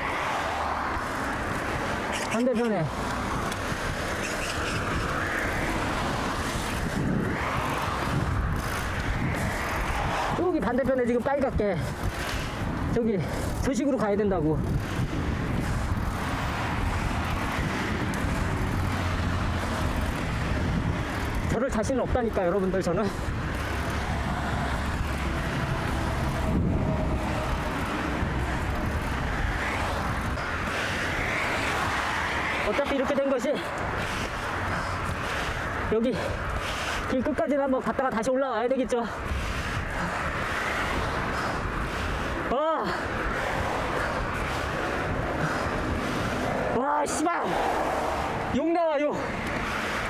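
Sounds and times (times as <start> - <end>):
wind on microphone: 0.0 - 32.8, 33.7 - 37.3, 39.0 - 46.8, 47.4 - 48.6
road traffic passing: 0.0 - 50.0.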